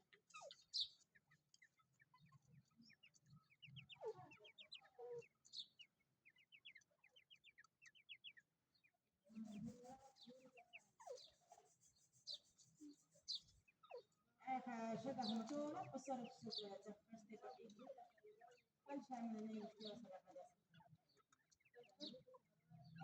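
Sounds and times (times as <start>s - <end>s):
birds chirping high: 0.0s - 23.0s.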